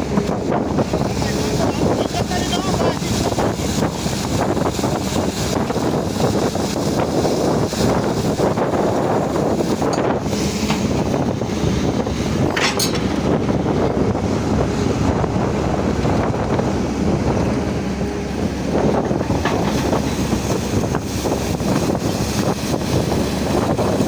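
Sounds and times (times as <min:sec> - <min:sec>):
excavator diesel engine rumble: 0:00.0 - 0:24.0
wind buffeting microphone: 0:00.0 - 0:24.0.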